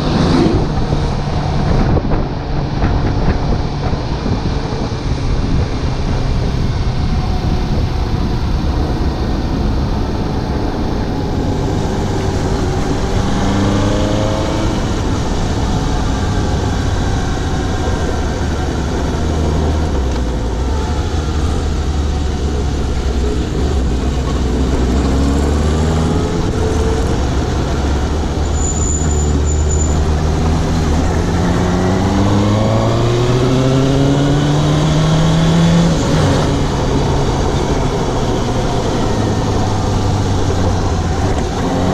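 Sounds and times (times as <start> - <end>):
motorcycle engine revving: 0.0 - 41.9
wind noise on microphone: 0.0 - 41.9.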